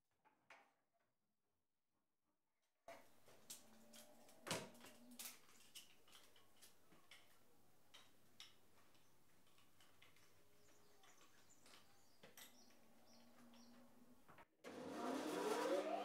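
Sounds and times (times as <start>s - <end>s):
workshop room tone: 2.9s - 16.0s.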